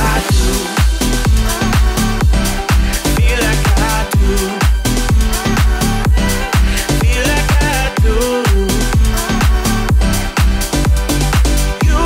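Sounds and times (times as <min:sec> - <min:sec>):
kick drum: 0:00.3 - 0:12.0.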